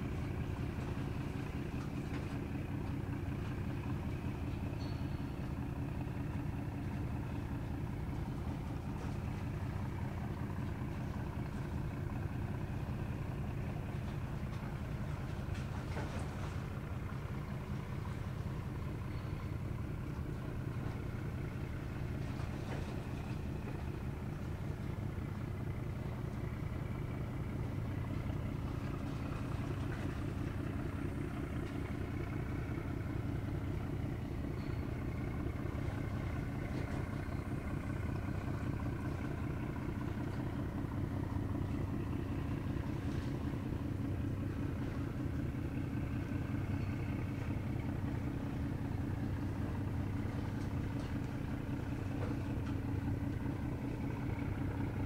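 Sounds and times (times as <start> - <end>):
ship engine droning: 0.0 - 55.0.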